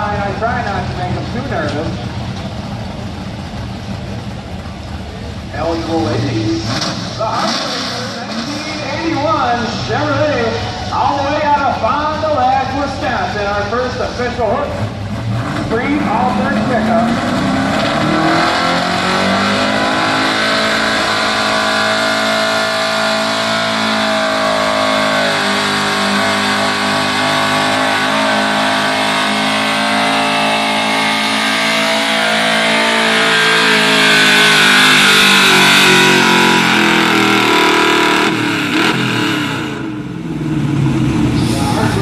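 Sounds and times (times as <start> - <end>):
truck engine at high revs: 0.0 - 42.0.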